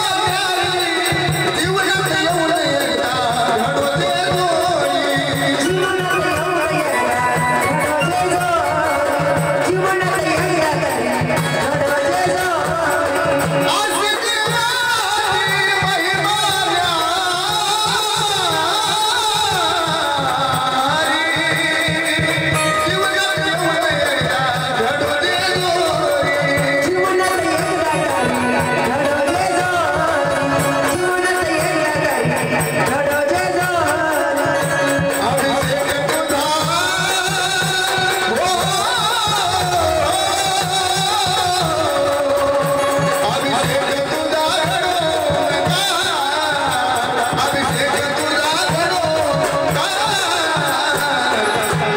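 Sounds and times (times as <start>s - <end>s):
ornamented devotional folk singing: 0.0s - 51.9s
steady drum beat: 0.0s - 51.9s.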